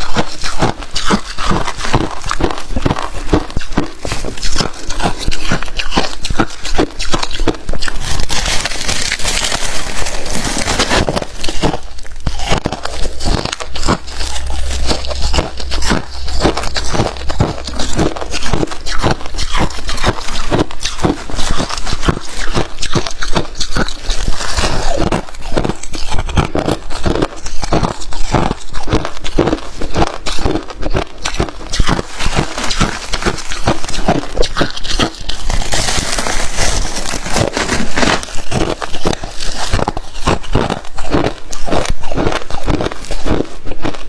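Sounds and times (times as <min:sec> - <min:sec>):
frost being bitten and chewed: 0:00.0 - 0:44.0.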